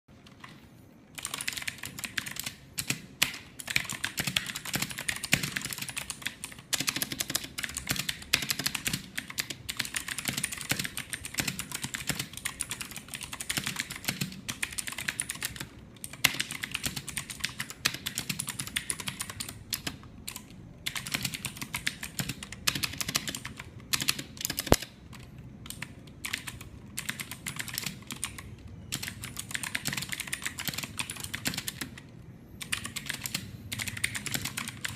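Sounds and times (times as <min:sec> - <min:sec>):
fast typing on mechanical keyboard: 0:00.2 - 0:34.9.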